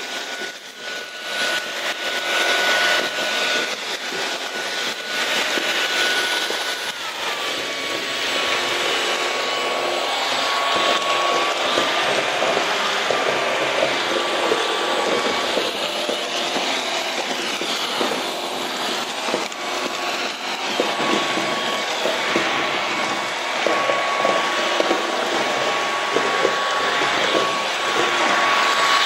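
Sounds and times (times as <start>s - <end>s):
debris rattling in vacuum: 0.0s - 29.0s
vacuum motor whine: 0.0s - 29.0s.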